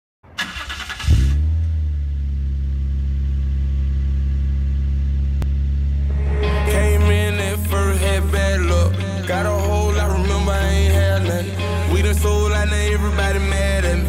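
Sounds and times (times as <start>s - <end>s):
car engine starting and idling: 0.2s - 14.0s.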